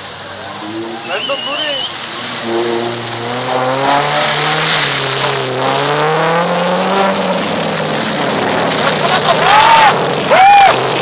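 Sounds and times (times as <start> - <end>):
engine revving under load: 0.4 - 11.0.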